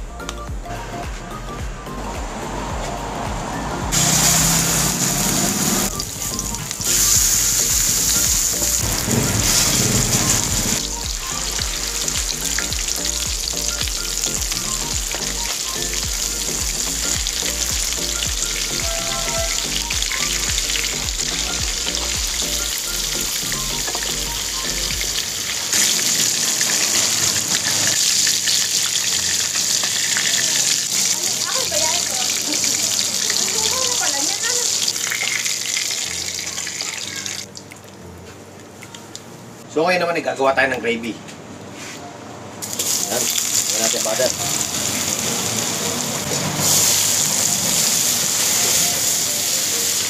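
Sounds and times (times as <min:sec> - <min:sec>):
burger patties sizzling in oil: 0:03.9 - 0:37.4, 0:42.6 - 0:50.0.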